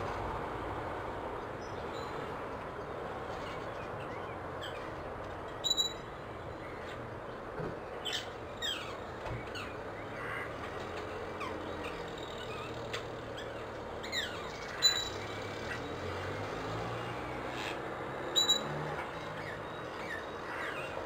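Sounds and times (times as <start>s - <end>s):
low traffic hum: 0.0s - 21.0s.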